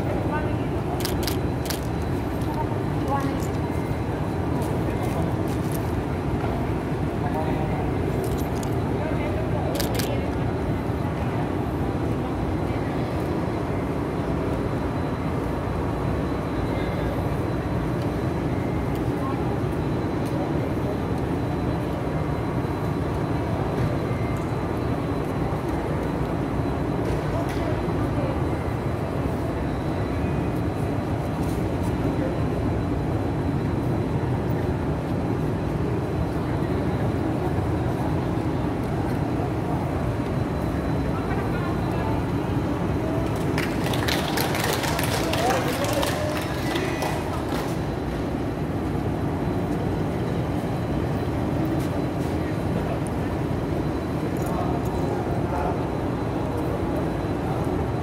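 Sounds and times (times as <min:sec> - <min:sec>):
faint indistinct voices: 0:00.0 - 0:58.0
low rumble in a large hall: 0:00.0 - 0:58.0.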